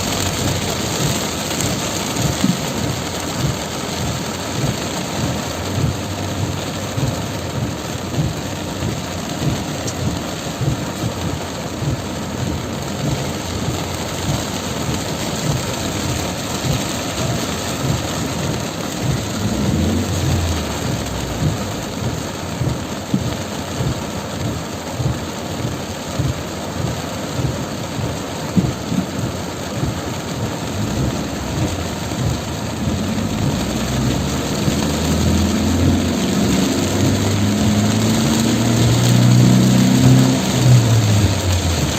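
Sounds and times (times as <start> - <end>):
low rumbling: 0.0 - 24.2, 28.6 - 41.9
heavy rain pouring: 0.0 - 41.9.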